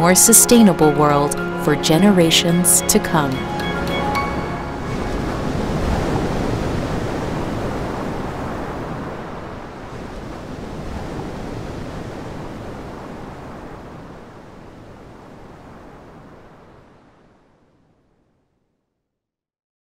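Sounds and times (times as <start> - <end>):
ocean surf washing in: 0.0 - 17.9.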